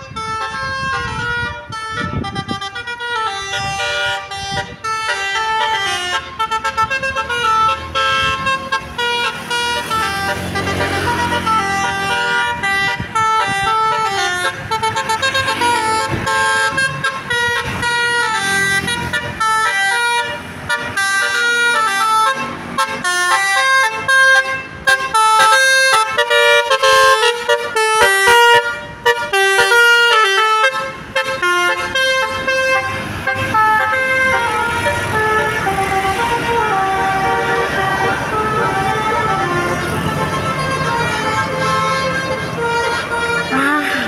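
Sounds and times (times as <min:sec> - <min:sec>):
musical bus horn melody: 0:00.0 - 0:44.0.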